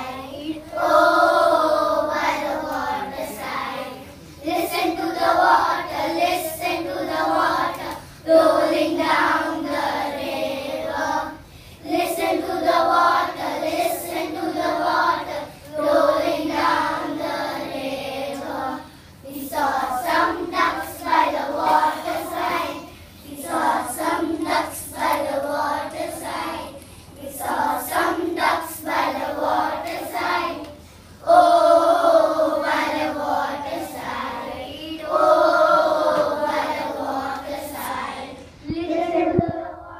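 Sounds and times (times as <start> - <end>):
children singing in unison: 0.0 - 39.9.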